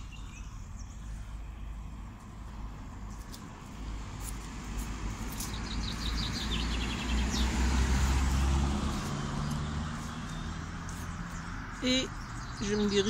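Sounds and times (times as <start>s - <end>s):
bird chirping: 0.0s - 3.7s, 5.2s - 13.0s
car passing: 0.0s - 13.0s.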